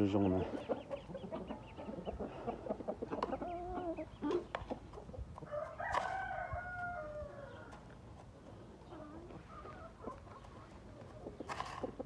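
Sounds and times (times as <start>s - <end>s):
chickens clucking: 0.0s - 12.0s
drawn-out chicken call: 0.3s - 12.0s.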